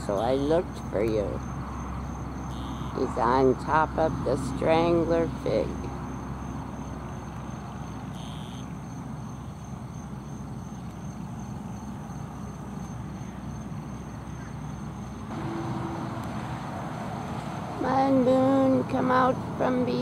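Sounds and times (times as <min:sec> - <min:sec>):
distant engine rumble: 0:00.0 - 0:20.0
high insect drone: 0:00.3 - 0:20.0.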